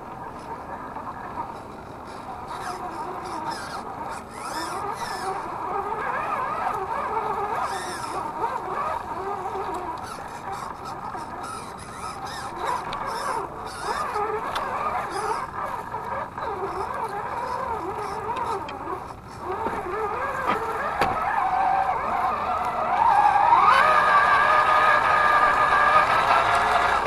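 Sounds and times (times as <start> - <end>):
electric motor and drivetrain whining: 0.0 - 27.0.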